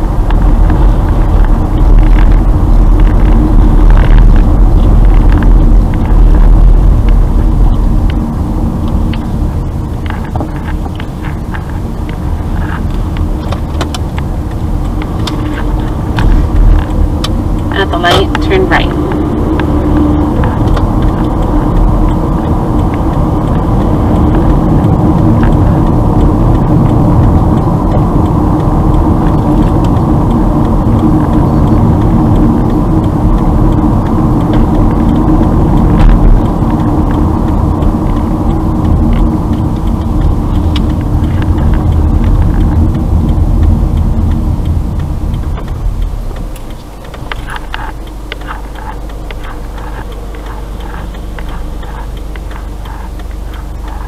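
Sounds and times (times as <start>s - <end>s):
car cabin road and engine rumble: 0.0s - 54.0s.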